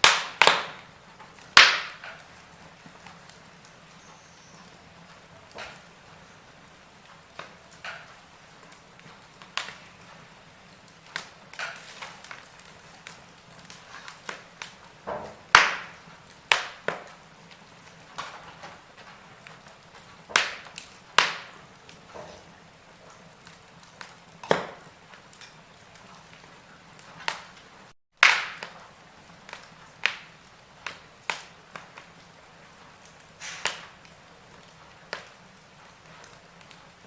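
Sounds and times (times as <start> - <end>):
fireplace fire crackling: 0.0 - 37.0.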